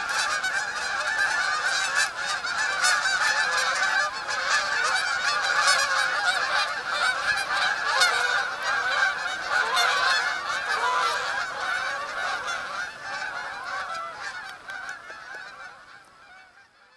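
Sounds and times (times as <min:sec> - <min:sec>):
flock of geese honking: 0:00.0 - 0:16.9.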